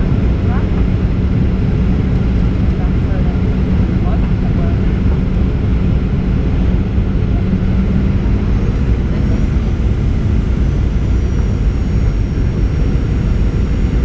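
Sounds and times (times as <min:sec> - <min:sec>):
airplane cabin rumble: 0:00.0 - 0:14.0
low hum: 0:00.0 - 0:14.0.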